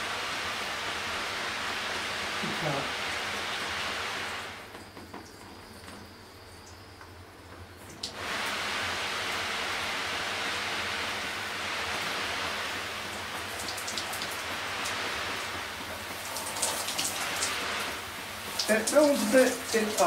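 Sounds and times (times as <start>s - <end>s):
shower spray hissing: 0.0s - 5.2s, 8.0s - 20.0s.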